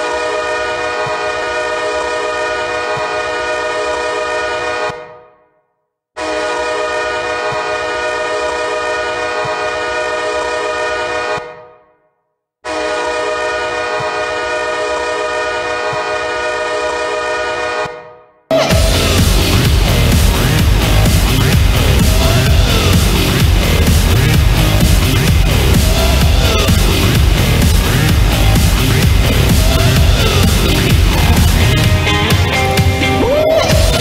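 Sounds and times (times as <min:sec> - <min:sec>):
goal horn blasts: 0:00.0 - 0:05.3, 0:06.2 - 0:11.8, 0:12.6 - 0:32.6.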